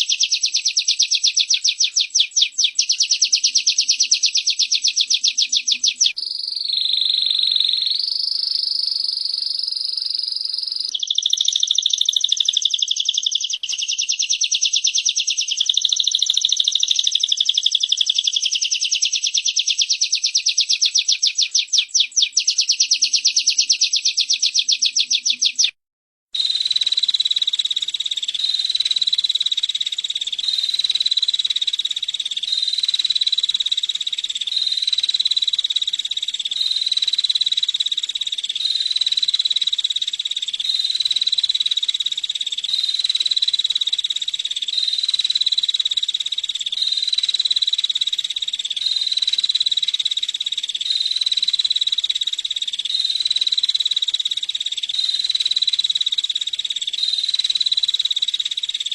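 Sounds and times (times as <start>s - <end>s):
birds singing high buzzing trills: 0.0s - 25.8s, 26.4s - 58.9s.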